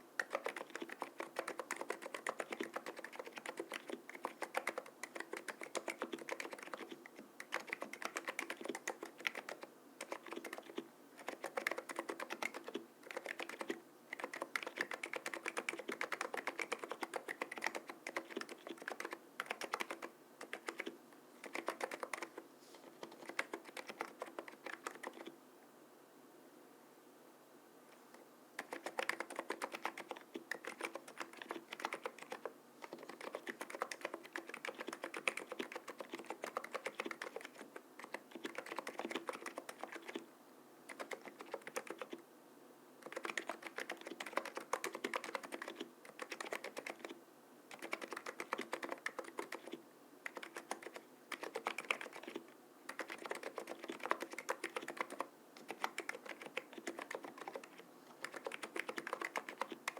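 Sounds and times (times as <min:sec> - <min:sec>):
keyboard typing: 0:00.2 - 0:25.3, 0:28.6 - 0:40.2, 0:40.9 - 0:42.2, 0:43.0 - 0:59.9.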